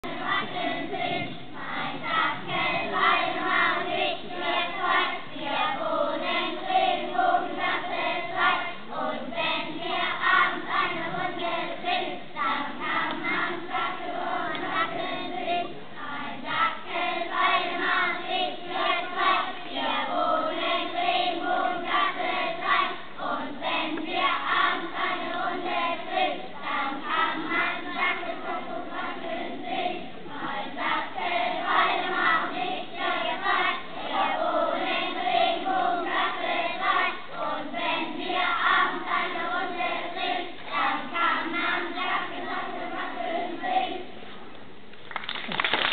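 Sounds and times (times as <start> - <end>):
children singing: 0.0 - 44.1.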